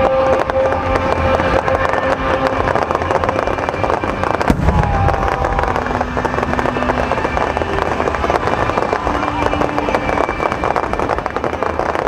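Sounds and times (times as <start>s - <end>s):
firework boom and rumble: 0.0s - 12.0s
fireworks crackling: 0.0s - 12.0s.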